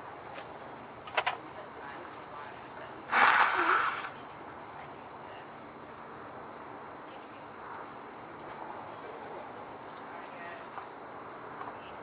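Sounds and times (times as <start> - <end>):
high-pitched insect drone: 0.0 - 12.0
outdoor background noise: 0.0 - 12.0.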